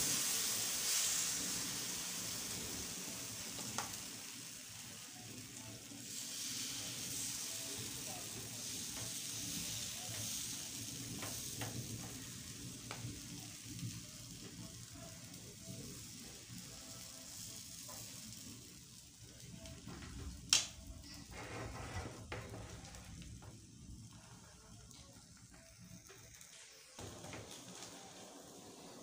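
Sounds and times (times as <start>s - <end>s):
batter sizzling in a frying pan: 0.0s - 29.0s.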